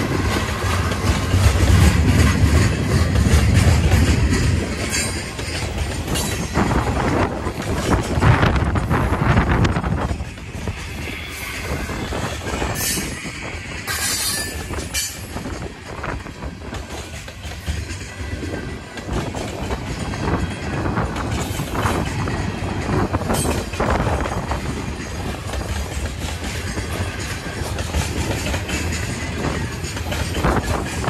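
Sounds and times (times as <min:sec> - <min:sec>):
train wheels clacking over rail joints: 0:00.0 - 0:31.0.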